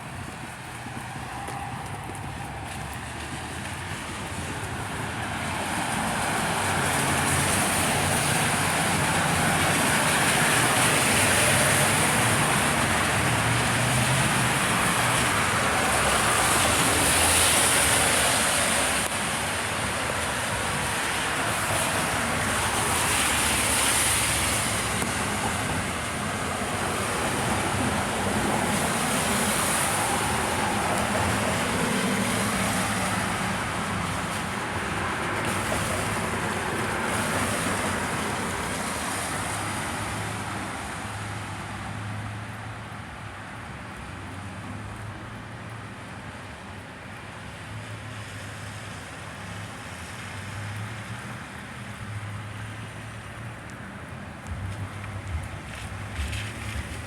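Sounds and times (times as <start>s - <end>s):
tyres hissing on wet road: 0.0s - 57.0s.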